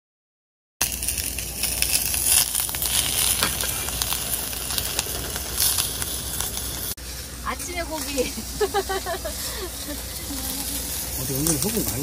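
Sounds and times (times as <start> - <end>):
crackling hiss with pops: 0.8 - 12.0.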